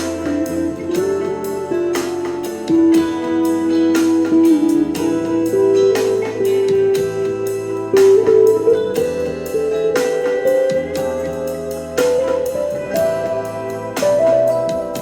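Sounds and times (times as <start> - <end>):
slide guitar melody: 0.0 - 15.0.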